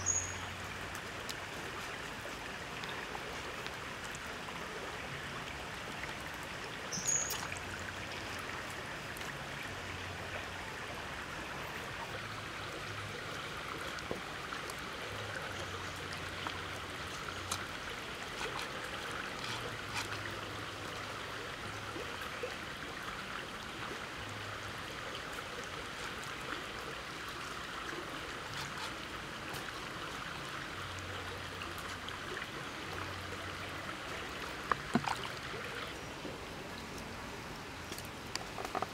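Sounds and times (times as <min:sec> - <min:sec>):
forest stream babbling: 0:00.0 - 0:38.9.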